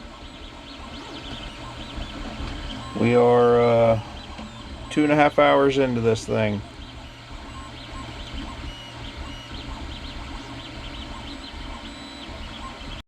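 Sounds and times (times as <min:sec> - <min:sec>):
printer low hum: 0:00.0 - 0:13.0
stepper motors chirping: 0:00.0 - 0:13.0.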